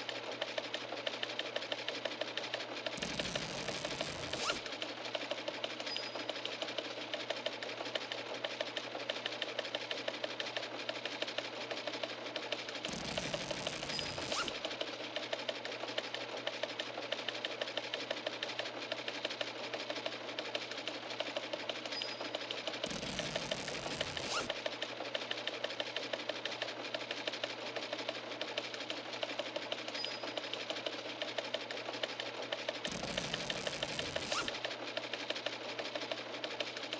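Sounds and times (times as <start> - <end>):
machine clicking rapidly: 0.1 - 11.5, 12.4 - 20.2, 20.8 - 24.9, 27.8 - 36.9.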